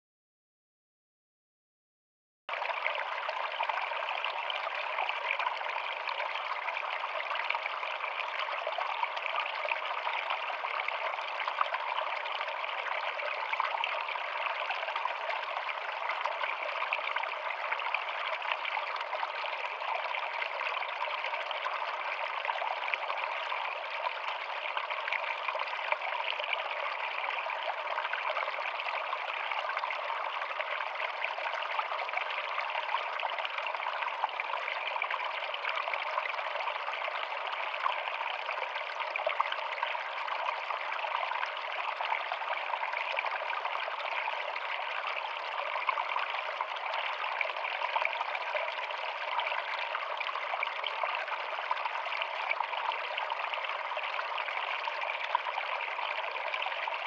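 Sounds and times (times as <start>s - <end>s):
stream trickling over rocks: 2.5s - 57.0s.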